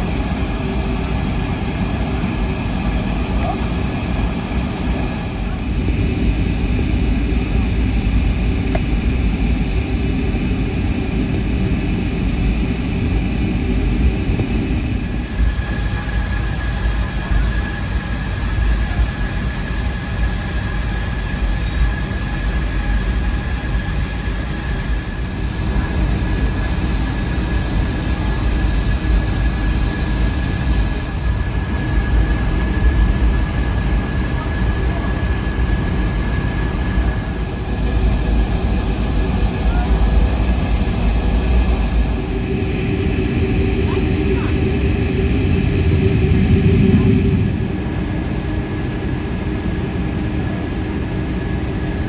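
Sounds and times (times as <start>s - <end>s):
aircraft engines rumbling: 0.0s - 52.0s
high-pitched whine: 0.0s - 52.0s.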